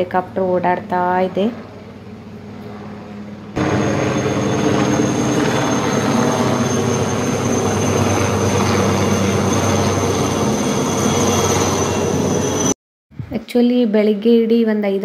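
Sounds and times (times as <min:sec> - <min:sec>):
helicopter flying overhead: 0:00.0 - 0:12.8.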